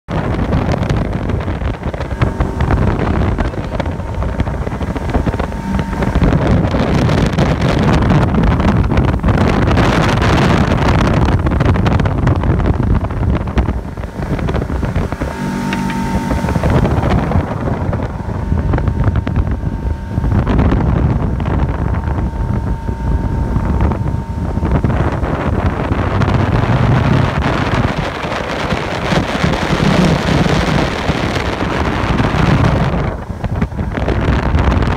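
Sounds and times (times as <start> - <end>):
wind buffeting microphone: 0.0 - 34.9
boat motor running: 0.1 - 34.9.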